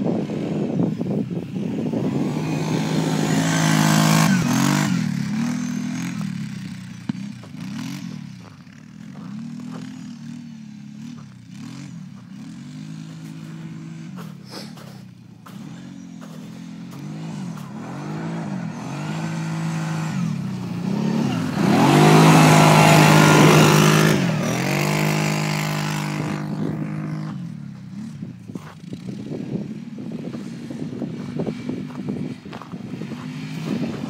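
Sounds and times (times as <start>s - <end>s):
quad engine revving: 0.0s - 34.0s.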